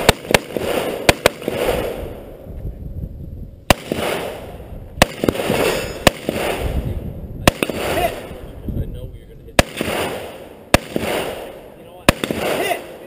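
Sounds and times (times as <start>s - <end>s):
rifle shots with echo: 0.0s - 2.3s, 3.7s - 8.6s, 9.5s - 13.0s.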